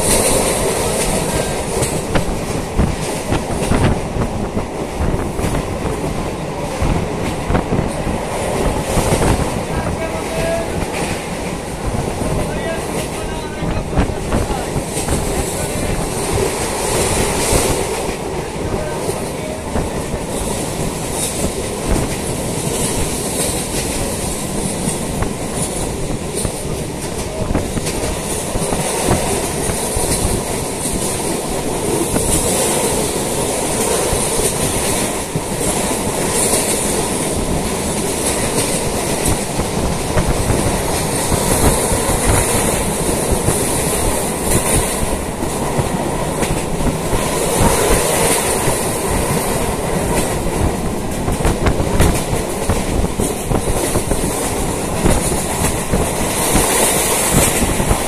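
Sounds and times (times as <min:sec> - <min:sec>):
clickety-clack over rail joints: 0:00.0 - 0:58.0
train wheels rumbling on track: 0:00.0 - 0:58.0.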